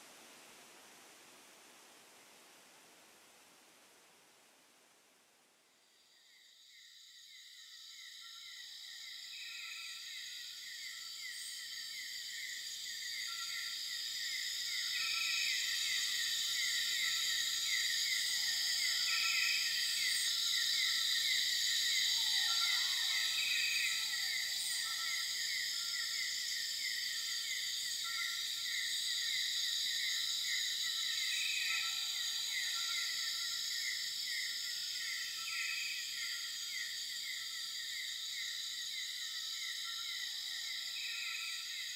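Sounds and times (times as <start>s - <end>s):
insects chirping: 5.7s - 41.9s.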